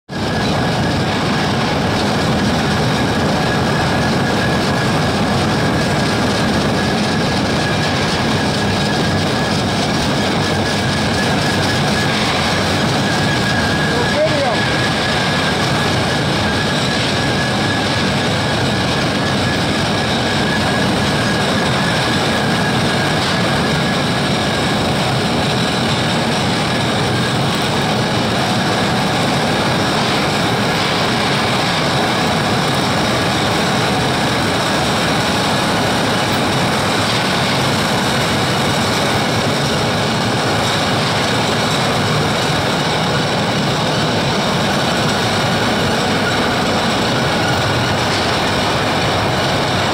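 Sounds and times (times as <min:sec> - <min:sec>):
conveyor belts clattering: 0:00.1 - 0:49.9.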